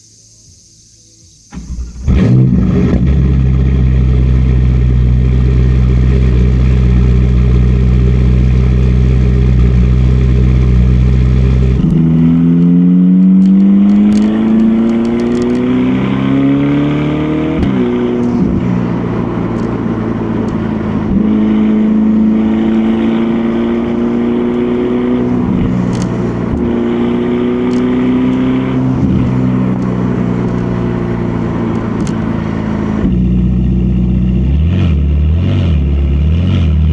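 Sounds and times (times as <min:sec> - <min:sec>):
car engine starting and revving: 0:01.4 - 0:36.9.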